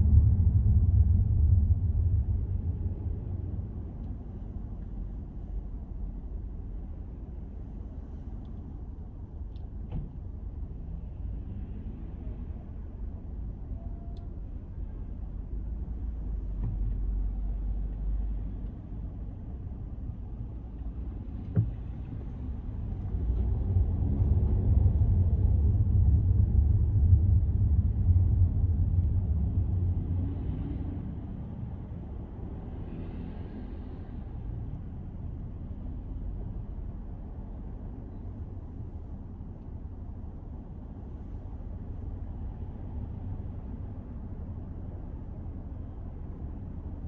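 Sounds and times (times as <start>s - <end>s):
car road rumble: 0.0s - 47.0s.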